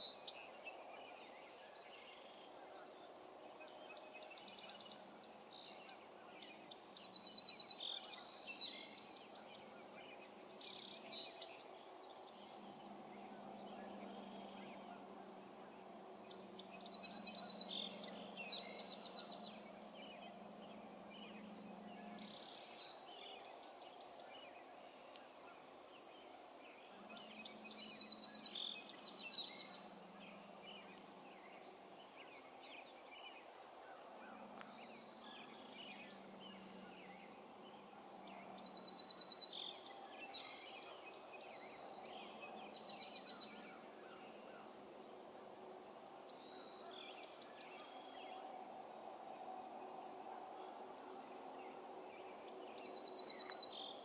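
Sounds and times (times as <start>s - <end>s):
faint low hum: 0.0s - 54.0s
songbird singing: 0.0s - 54.0s.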